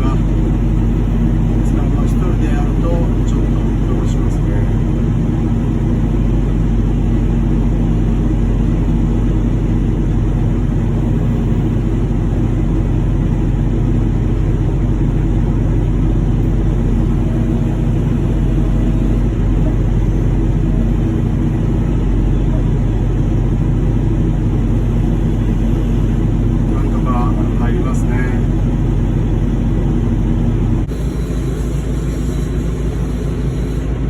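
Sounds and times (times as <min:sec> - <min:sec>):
constant hum: 0:00.0 - 0:34.0
machinery rumbling: 0:00.0 - 0:34.0.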